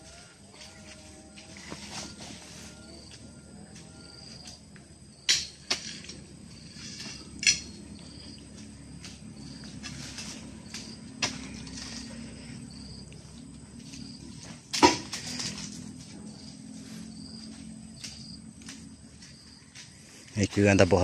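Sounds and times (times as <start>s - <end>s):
high insect hum: 0.0s - 21.0s.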